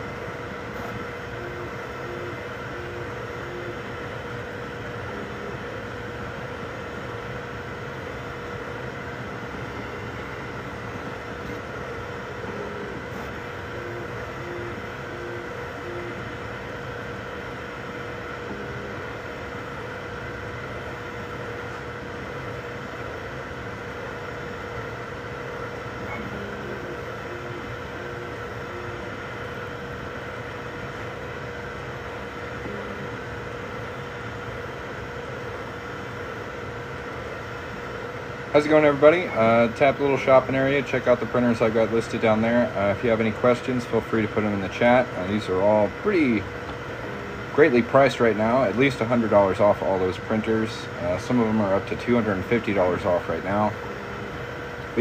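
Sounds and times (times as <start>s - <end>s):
fan hum: 0.0s - 55.0s
stepper motor tones: 0.0s - 55.0s.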